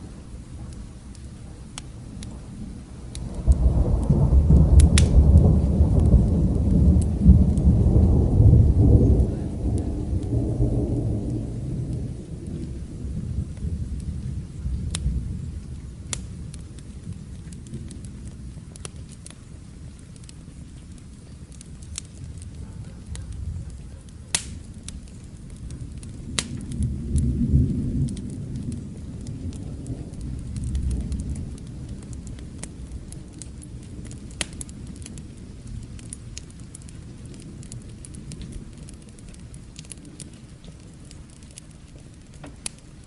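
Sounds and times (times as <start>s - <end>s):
thunder rumbling: 0.0s - 19.2s, 20.5s - 43.0s
fire crackling: 0.0s - 43.0s
rain hiss: 0.0s - 43.0s.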